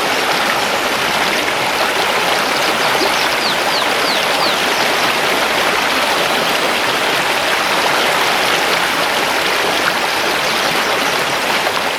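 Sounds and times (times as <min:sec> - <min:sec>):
river flowing over stones: 0:00.0 - 0:11.9.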